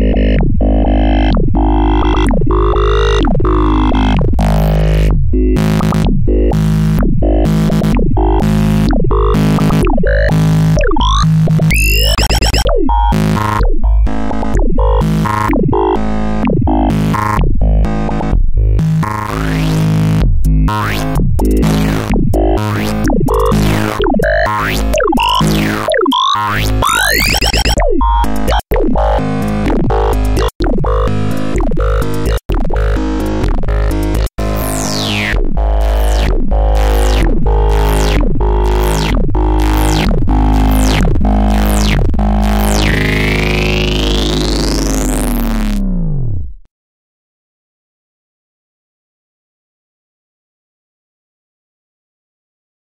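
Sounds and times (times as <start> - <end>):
steady low bass: 0.0 - 25.7, 26.6 - 45.9
buzzy electronic tones: 0.0 - 45.8
pulsing synthesizer music: 0.0 - 45.9.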